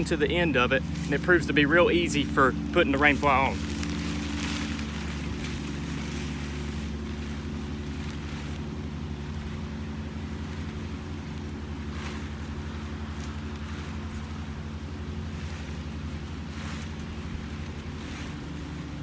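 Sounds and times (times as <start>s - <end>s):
low motor drone: 0.0s - 19.0s
tent fabric rustling: 0.0s - 19.0s.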